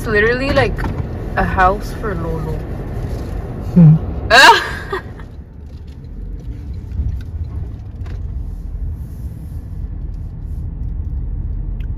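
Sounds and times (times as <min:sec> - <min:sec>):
car engine and road noise: 0:00.0 - 0:11.9.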